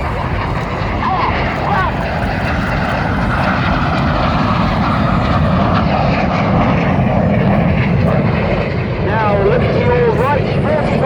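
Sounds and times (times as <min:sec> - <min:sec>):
jet engines roaring past: 0:00.0 - 0:11.0.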